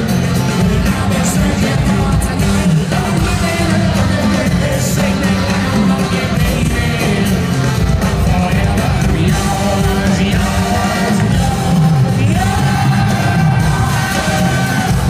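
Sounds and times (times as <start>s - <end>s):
crowd yelling: 0.0s - 15.0s
live rock band playing: 0.0s - 15.0s
person singing: 0.0s - 15.0s.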